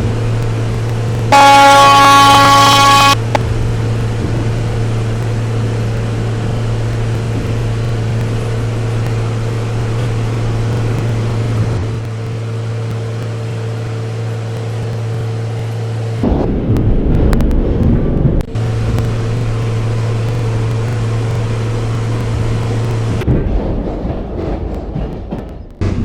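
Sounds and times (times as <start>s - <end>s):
steady low hum: 0.0s - 26.0s
train running rumble: 0.0s - 26.0s.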